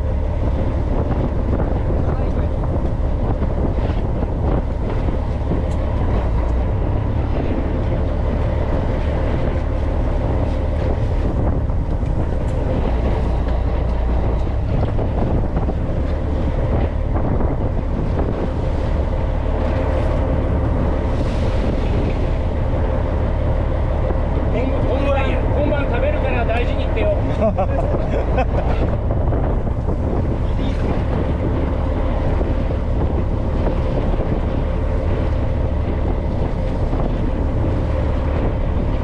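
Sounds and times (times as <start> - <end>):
boat engine droning: 0.0 - 39.0
wind buffeting microphone: 0.0 - 39.0.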